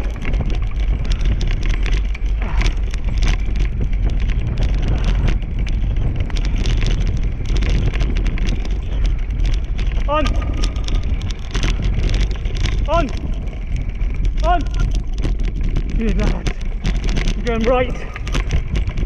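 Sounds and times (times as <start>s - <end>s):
rig rattling and knocking: 0.0s - 19.0s
wheels rumbling over grass: 0.0s - 19.0s
wind on microphone: 0.0s - 19.0s.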